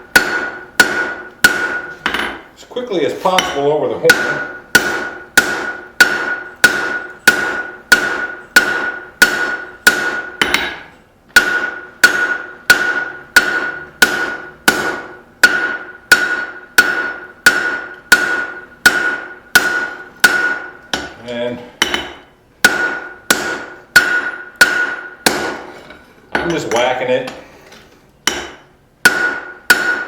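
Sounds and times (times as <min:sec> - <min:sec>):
hammer striking hot steel: 0:00.0 - 0:02.5, 0:03.4 - 0:21.2, 0:21.8 - 0:27.4, 0:28.2 - 0:30.0
anvil ringing ping: 0:00.1 - 0:02.5, 0:03.4 - 0:21.1, 0:21.8 - 0:25.7, 0:28.3 - 0:30.0.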